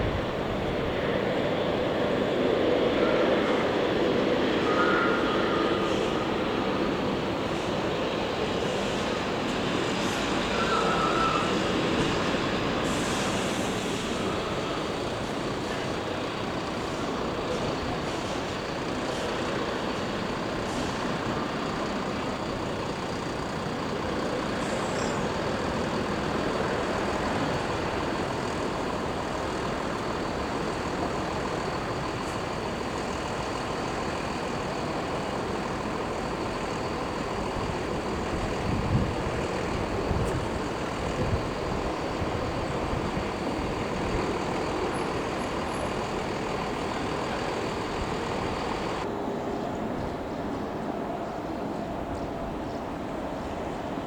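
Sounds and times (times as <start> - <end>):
jet engines roaring: 0.0 - 51.2.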